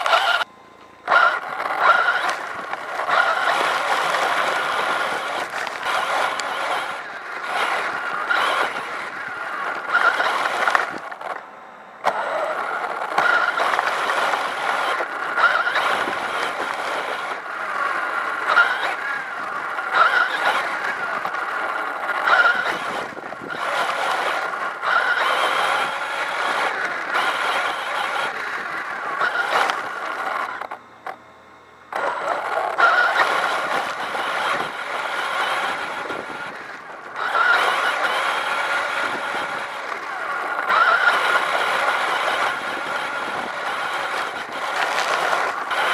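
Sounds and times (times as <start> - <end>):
rc car bouncing over grass: 0.0 - 31.2, 31.9 - 45.9
rc car motor whine: 0.0 - 45.9.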